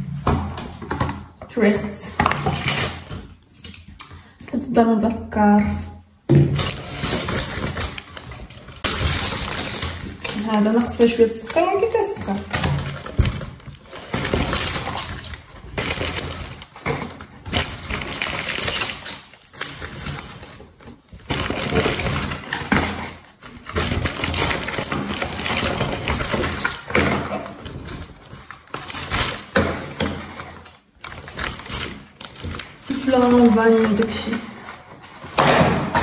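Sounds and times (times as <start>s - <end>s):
plastic bag rustling: 6.4s - 35.4s.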